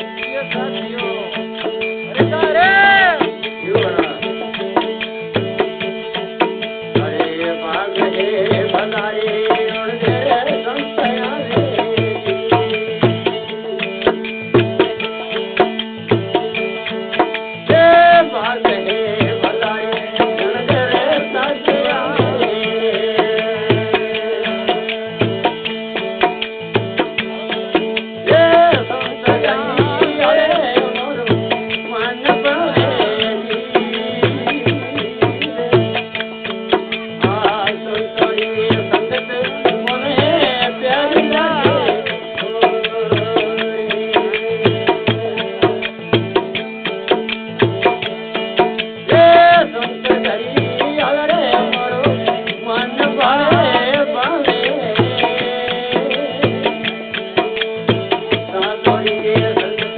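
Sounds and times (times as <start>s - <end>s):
hand drum rhythm: 0.0s - 59.9s.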